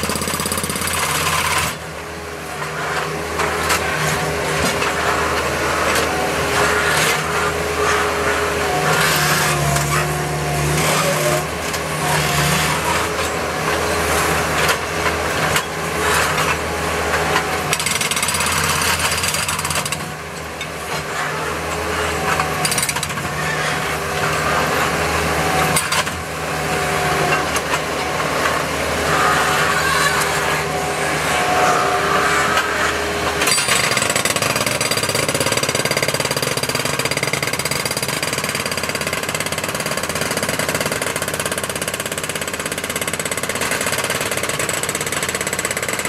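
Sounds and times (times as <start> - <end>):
loader engine running: 0.0 - 41.0
hydraulic breaker hammering concrete: 0.0 - 46.0.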